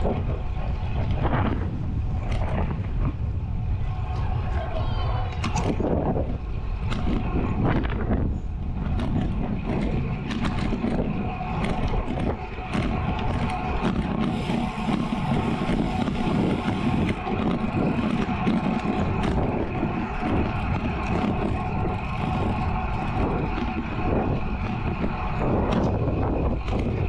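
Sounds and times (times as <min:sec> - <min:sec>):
bike tyres rolling on pavement: 0:00.0 - 0:27.0
wind rushing over microphone: 0:00.0 - 0:27.0.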